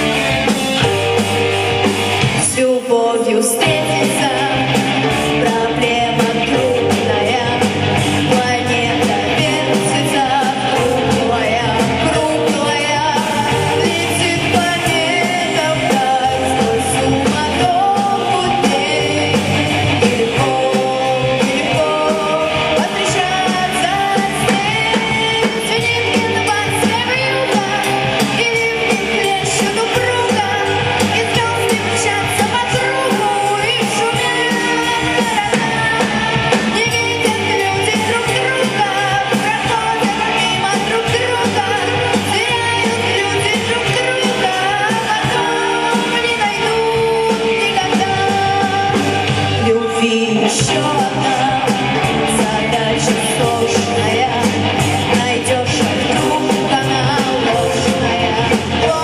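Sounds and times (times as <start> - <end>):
live band playing: 0.0 - 59.0
person singing: 0.0 - 59.0.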